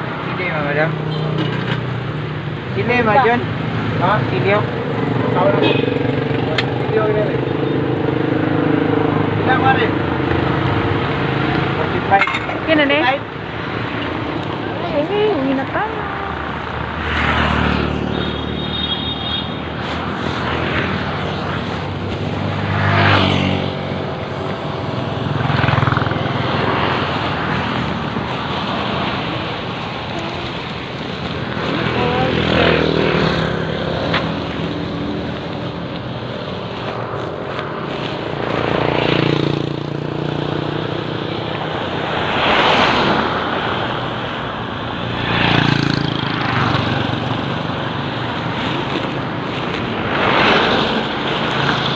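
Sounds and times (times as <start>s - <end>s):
motorcycles passing: 0.0s - 51.9s
steady traffic hum: 0.0s - 51.9s.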